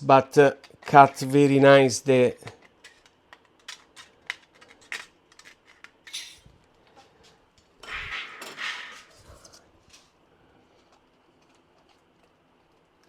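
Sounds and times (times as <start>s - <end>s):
rustling and handling noise: 2.4s - 13.0s.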